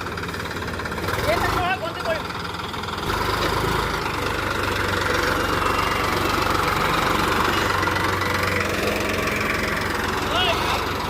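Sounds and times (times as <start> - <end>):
tractor diesel engine clattering: 0.0 - 11.0.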